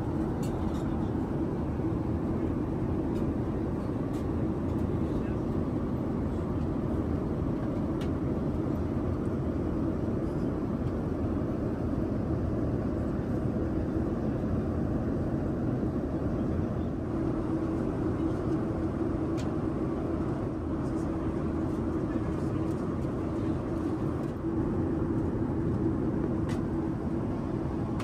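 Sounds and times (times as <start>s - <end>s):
airliner engine and airflow rush: 0.0s - 28.0s
constant hum: 0.0s - 28.0s.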